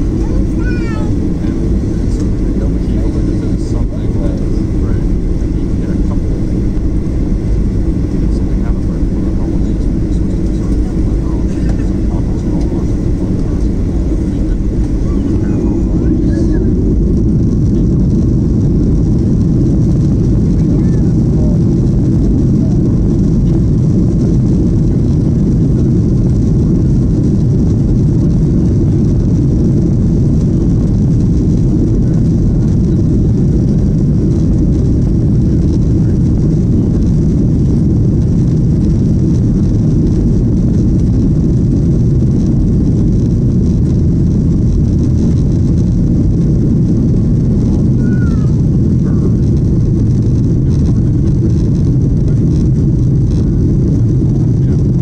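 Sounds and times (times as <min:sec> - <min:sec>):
jet engines roaring: 0:00.0 - 0:55.0
wheels rumbling on runway: 0:00.0 - 0:55.0.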